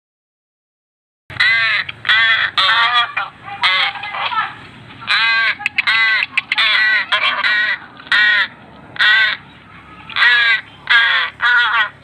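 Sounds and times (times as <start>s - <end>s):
young crow cawing: 1.3s - 12.0s.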